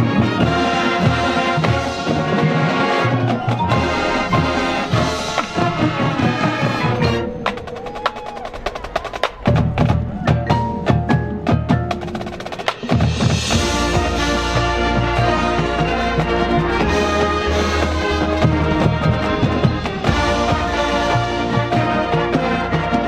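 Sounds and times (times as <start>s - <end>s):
marching band with brass: 0.0s - 23.0s.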